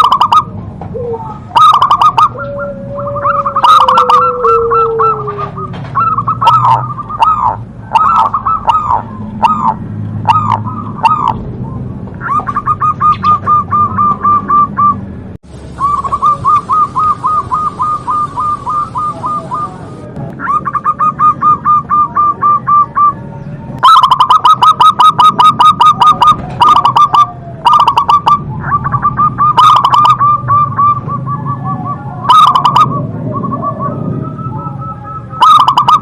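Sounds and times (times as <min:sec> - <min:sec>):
dove cooing: 0:00.0 - 0:15.1, 0:15.8 - 0:36.0.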